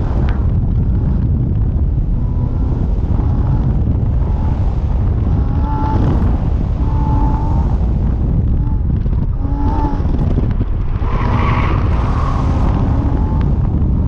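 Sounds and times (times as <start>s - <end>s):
car engine pulling at speed: 0.0s - 14.0s
wind buffeting microphone: 0.0s - 14.0s.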